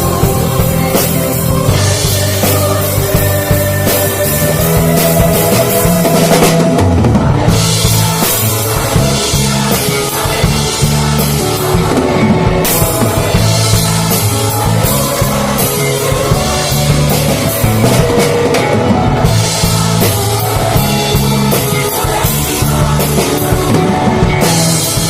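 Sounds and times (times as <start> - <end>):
voices singing: 0.0 - 25.0
worship band playing: 0.0 - 25.0.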